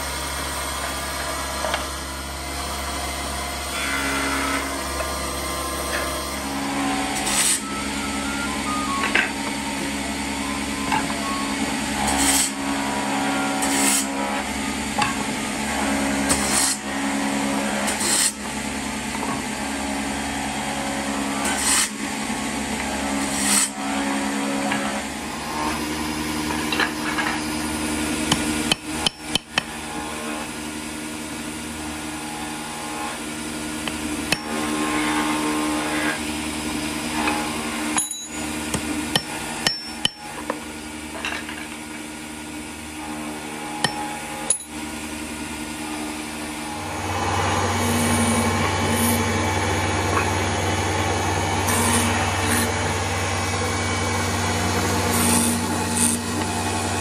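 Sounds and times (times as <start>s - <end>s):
workshop machine motor humming: 0.0s - 57.0s.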